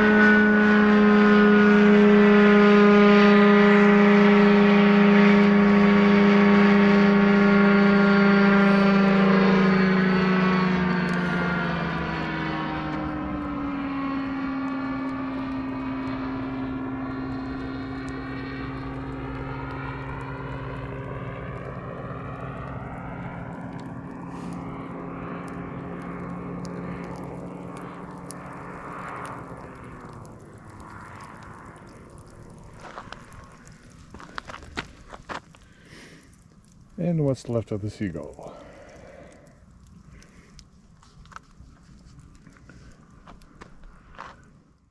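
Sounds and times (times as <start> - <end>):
light aircraft flying past: 0.0 - 44.8.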